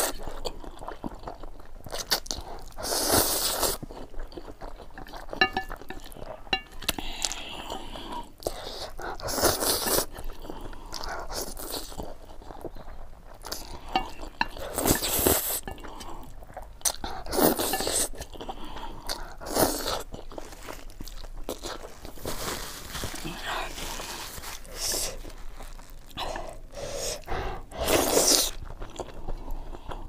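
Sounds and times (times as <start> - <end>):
person chewing and biting: 0.1 - 30.0.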